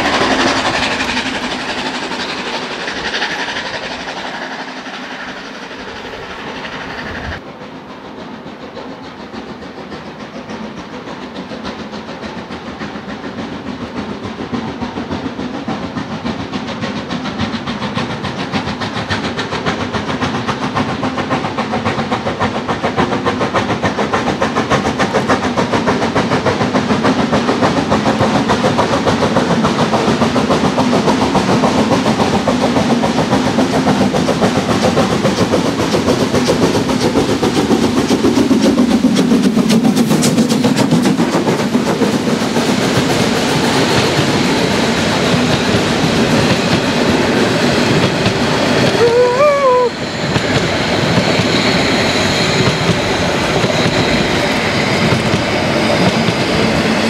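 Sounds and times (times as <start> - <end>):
steam locomotive chuffing: 0.0 - 57.0
train wheels clattering on rails: 0.0 - 57.0.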